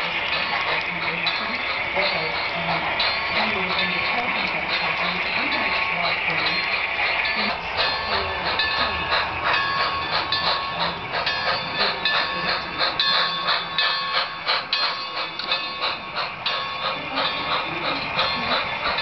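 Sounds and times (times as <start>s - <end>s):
model train wheels clattering: 0.0s - 19.0s.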